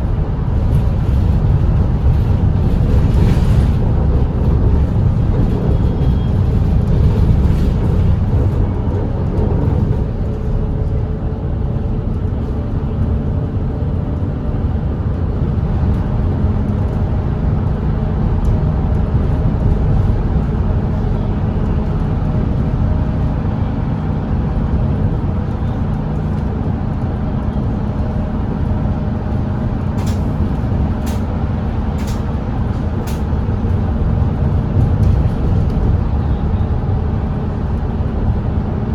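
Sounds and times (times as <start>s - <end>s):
bus engine drone: 0.0s - 38.9s
road and tyre rumble: 0.0s - 38.9s.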